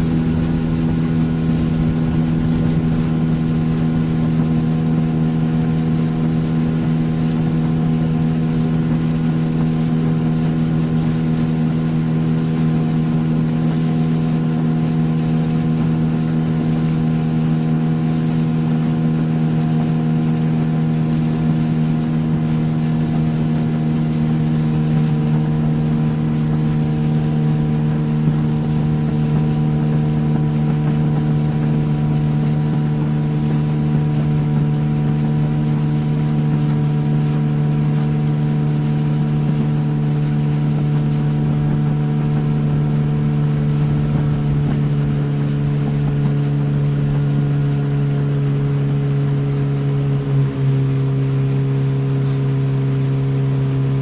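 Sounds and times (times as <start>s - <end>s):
motorboat engine humming: 0.0s - 54.0s
wind and water rushing: 0.0s - 54.0s.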